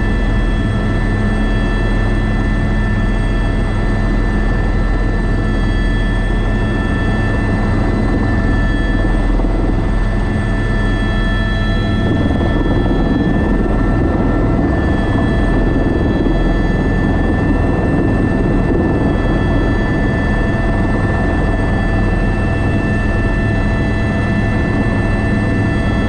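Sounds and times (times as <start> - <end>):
helicopter rotor drone: 0.0 - 26.0
helicopter turbine whine: 0.0 - 26.0.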